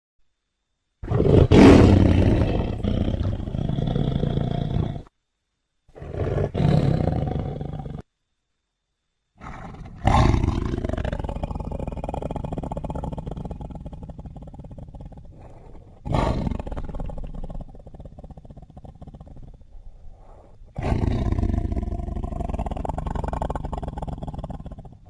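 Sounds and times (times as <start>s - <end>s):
big cat roars: 1.0s - 5.1s, 5.9s - 8.0s, 9.4s - 25.0s.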